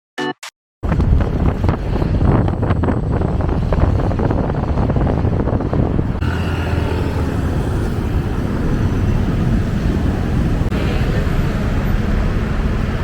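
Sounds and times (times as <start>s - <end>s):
road vehicle running: 0.8s - 13.0s
wind over microphone: 0.8s - 13.0s.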